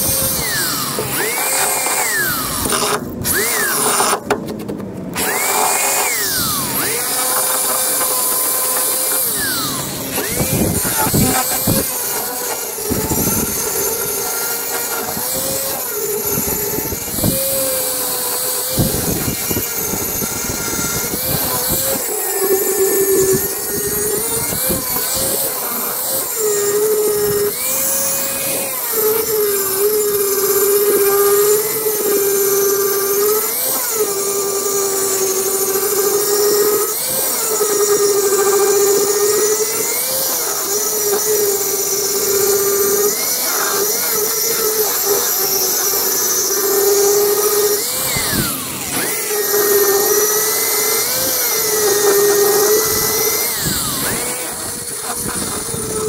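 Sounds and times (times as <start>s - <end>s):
angle grinder grinding steel: 0.0s - 56.0s.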